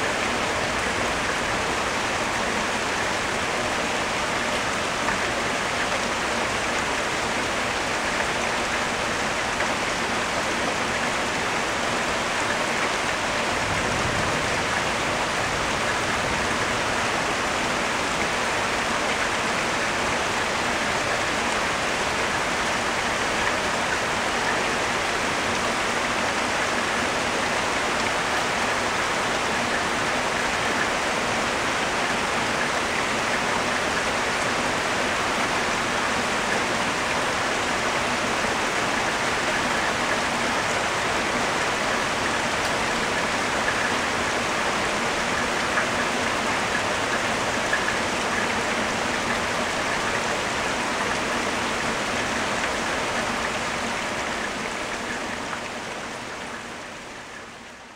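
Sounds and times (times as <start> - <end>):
steady rain on plants: 0.0 - 57.9.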